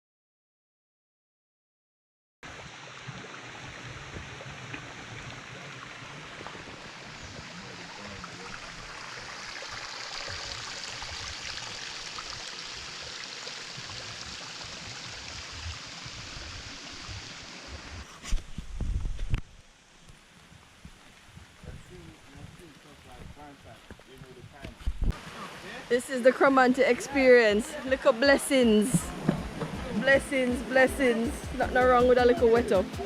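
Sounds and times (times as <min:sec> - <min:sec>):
water rushing: 0:02.4 - 0:18.1, 0:18.9 - 0:33.0.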